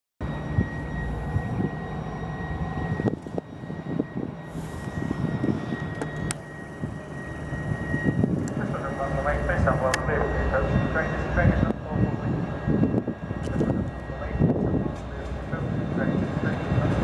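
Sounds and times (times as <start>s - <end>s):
diesel locomotives droning: 0.2s - 17.0s
wind buffeting microphone: 0.3s - 8.8s, 9.5s - 17.0s.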